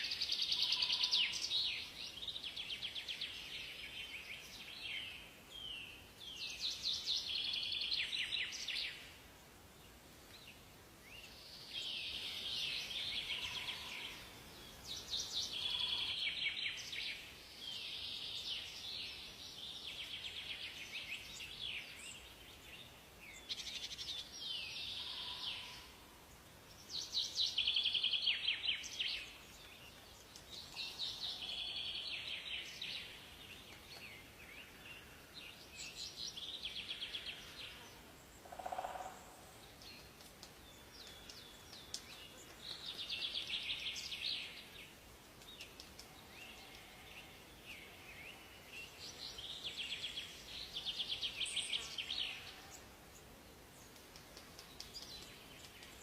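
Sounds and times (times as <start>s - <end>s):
songbirds trilling: 10.5s - 56.0s.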